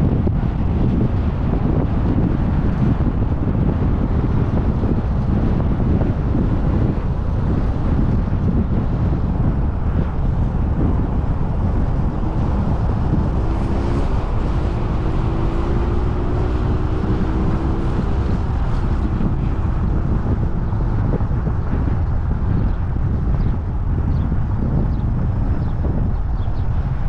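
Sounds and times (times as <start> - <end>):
car road and wind noise: 0.0 - 27.0.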